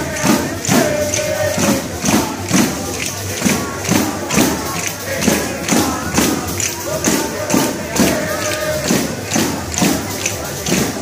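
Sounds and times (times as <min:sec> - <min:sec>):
crowd voices: 0:00.0 - 0:11.0
folk music: 0:00.0 - 0:11.0
tambourine beat: 0:00.0 - 0:11.0.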